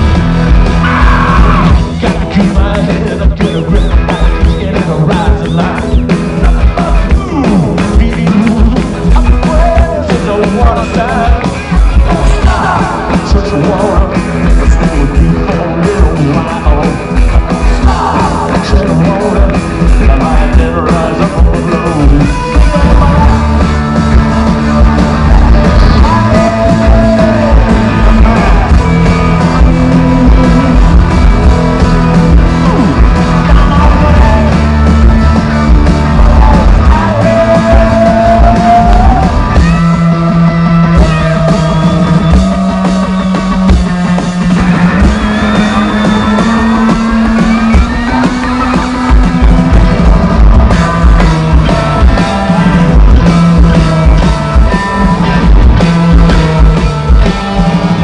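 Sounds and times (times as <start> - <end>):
drum kit: 0.0 - 58.0
electric guitars: 0.0 - 58.0
person singing: 0.7 - 43.9, 44.9 - 58.0.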